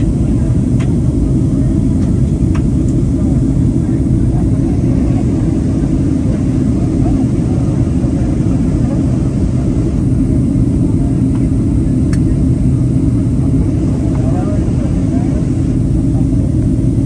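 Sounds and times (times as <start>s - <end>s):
airliner cabin engine roar: 0.0s - 17.0s.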